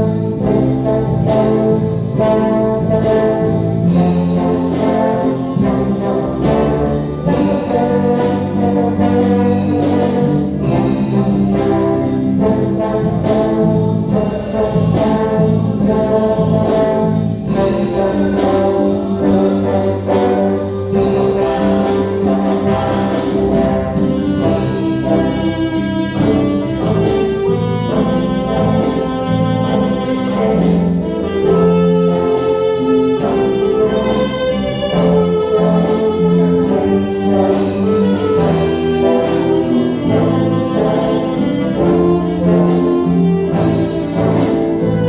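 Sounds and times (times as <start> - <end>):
orchestra playing: 0.0 - 45.0
steady beat: 0.0 - 45.0
trombones and trumpets: 0.0 - 45.0.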